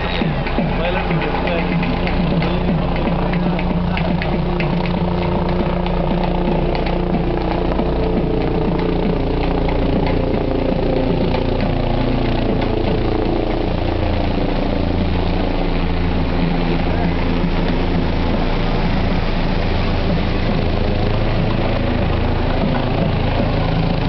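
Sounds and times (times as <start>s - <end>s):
helicopter flying overhead: 0.0s - 24.0s.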